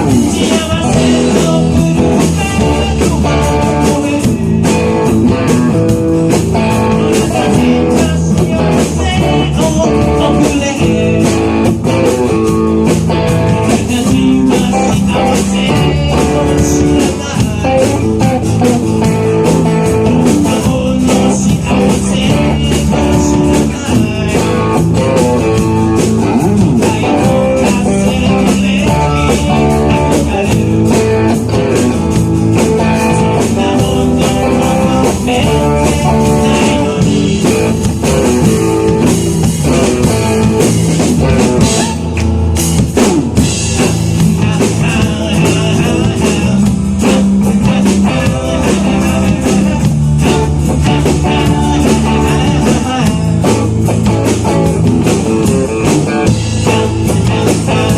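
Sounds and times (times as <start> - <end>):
person singing: 0.0 - 42.3, 43.4 - 57.9
bass guitar: 0.0 - 57.9
drum kit: 0.0 - 57.9
electric guitar: 0.0 - 57.9.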